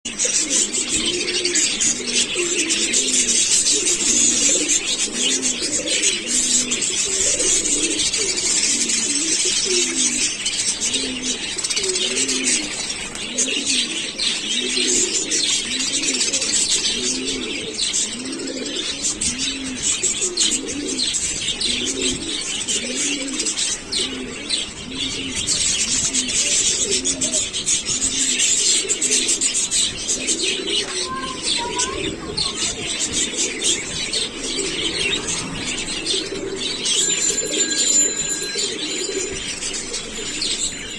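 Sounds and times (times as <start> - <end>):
small birds chirping: 0.0 - 40.9
doves cooing: 0.1 - 40.9.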